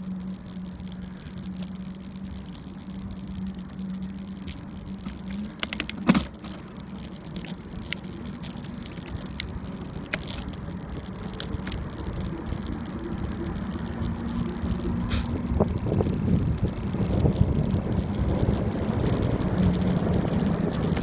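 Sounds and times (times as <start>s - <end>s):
bicycle tyres rumbling on asphalt: 0.0s - 21.0s
bike rattling clicks: 0.0s - 21.0s
wind on microphone: 0.0s - 21.0s.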